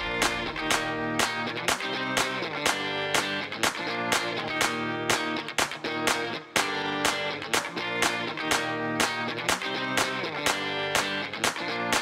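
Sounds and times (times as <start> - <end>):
strummed guitar music: 0.0 - 12.0.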